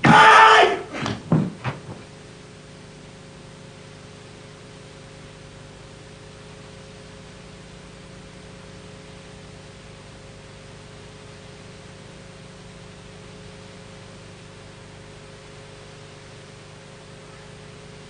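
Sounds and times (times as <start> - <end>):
tape hiss: 1.6 - 18.0.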